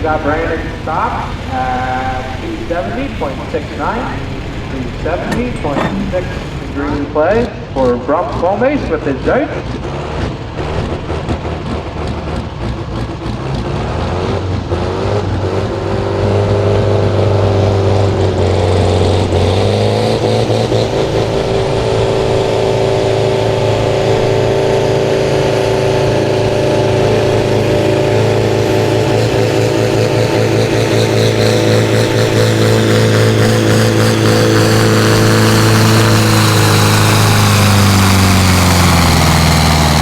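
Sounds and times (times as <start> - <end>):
tractor engine under full load: 0.0 - 40.0.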